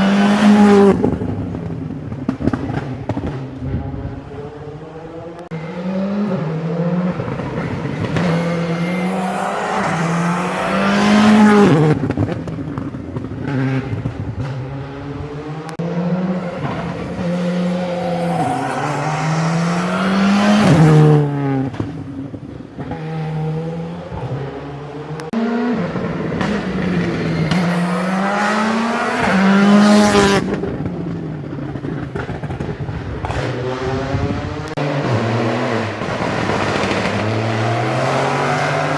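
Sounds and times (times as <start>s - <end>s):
rally car engine accelerating: 0.0s - 38.9s.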